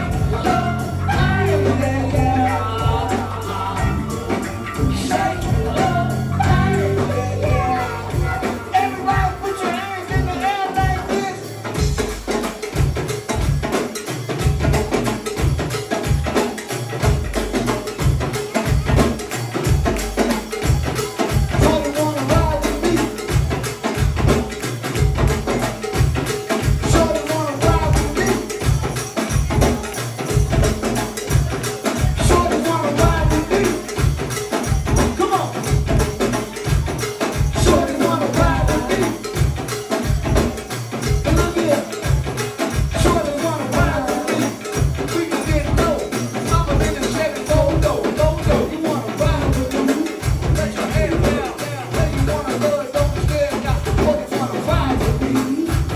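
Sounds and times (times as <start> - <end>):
band playing instrumental groove: 0.0 - 55.9
tambourine: 0.0 - 55.9.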